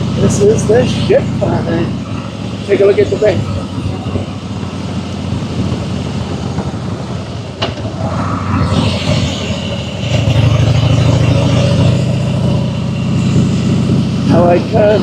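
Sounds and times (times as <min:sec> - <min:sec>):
motorcycle engine running: 0:00.0 - 0:07.6, 0:08.7 - 0:15.0
road hiss: 0:00.0 - 0:15.0
wind: 0:00.0 - 0:15.0.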